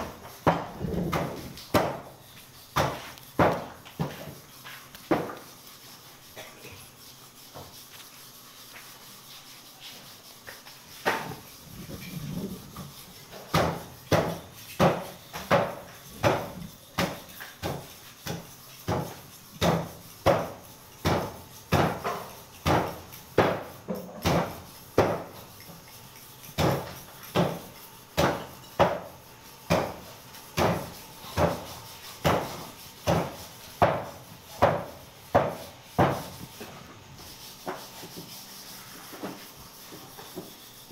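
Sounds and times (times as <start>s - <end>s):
knife blade scraping: 0.0s - 35.0s, 35.6s - 40.9s.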